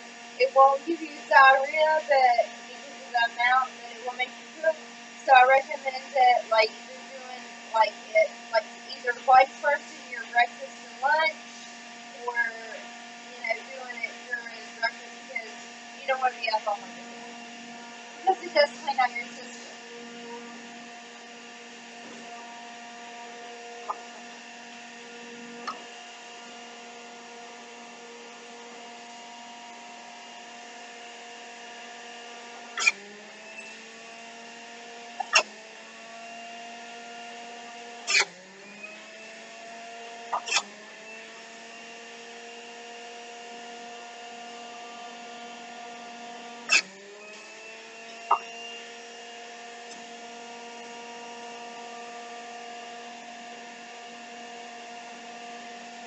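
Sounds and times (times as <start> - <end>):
juicer motor humming: 0.0 - 56.0.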